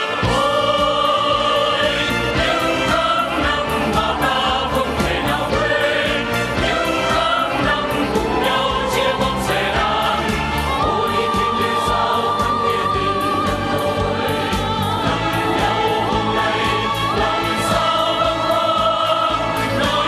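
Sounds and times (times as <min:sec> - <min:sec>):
amplified backing music with beat: 0:00.0 - 0:20.0
group singing into microphones: 0:00.0 - 0:20.0.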